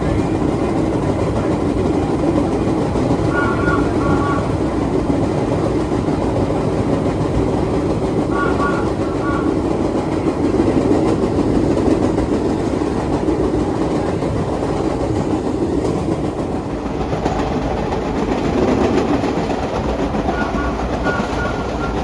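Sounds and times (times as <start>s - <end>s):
subway car wheels rumbling on rails: 0.0s - 22.0s.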